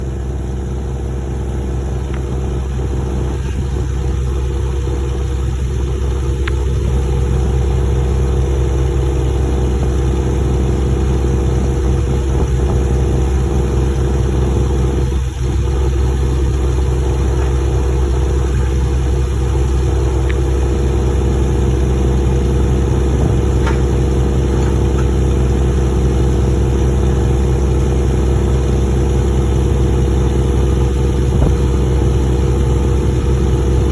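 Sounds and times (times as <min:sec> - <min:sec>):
pile-driving rig engine running: 0:00.0 - 0:33.9.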